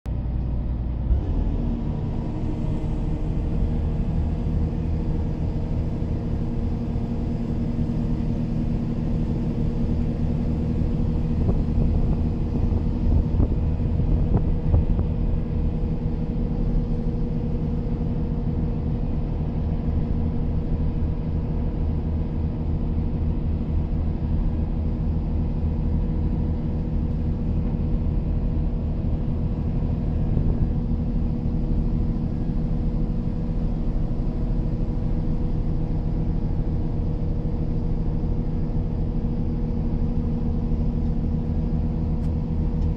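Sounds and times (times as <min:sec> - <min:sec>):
diesel engine rumbling: 0:00.1 - 0:42.9.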